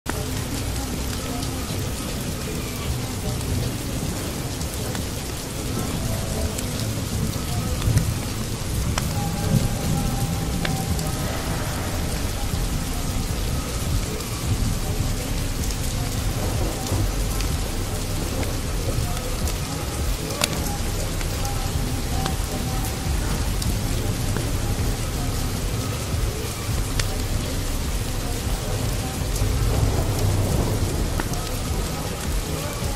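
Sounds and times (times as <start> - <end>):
steady rain: 0.0 - 32.9
low rumbling thunder: 0.3 - 32.9.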